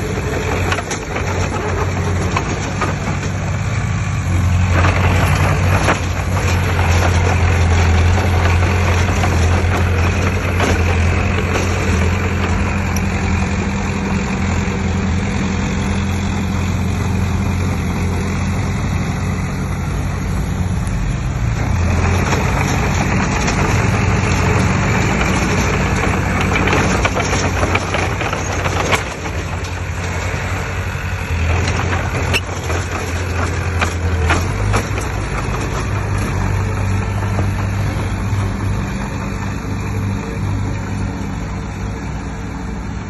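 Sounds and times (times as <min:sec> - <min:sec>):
earthmoving machine diesel engine: 0:00.0 - 0:43.0.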